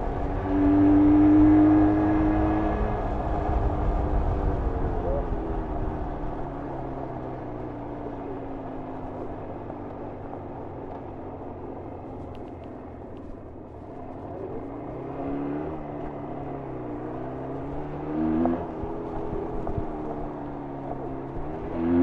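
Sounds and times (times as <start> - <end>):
motorcycle engine revving: 0.0 - 12.4, 13.1 - 22.0.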